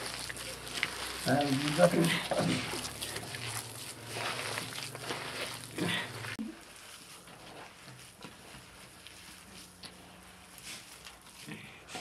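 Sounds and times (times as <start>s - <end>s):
wet rustling and squishing food: 0.0s - 12.0s.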